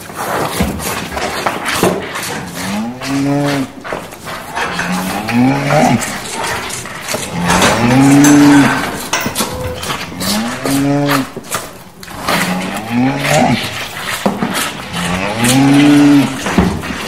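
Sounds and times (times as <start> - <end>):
knocks and rustling in stalls: 0.0 - 17.0
cows mooing: 1.8 - 17.0.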